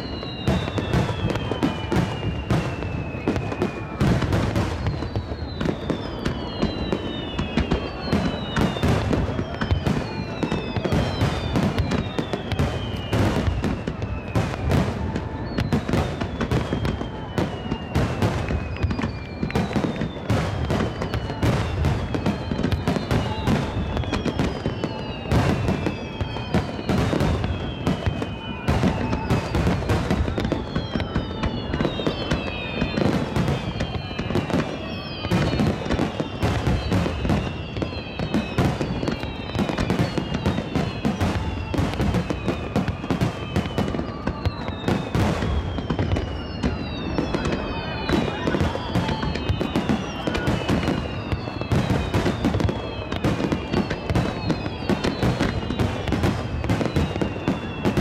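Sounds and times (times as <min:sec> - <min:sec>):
fireworks bursting and crackling: 0:00.0 - 0:58.0
fireworks whistling: 0:00.0 - 0:58.0.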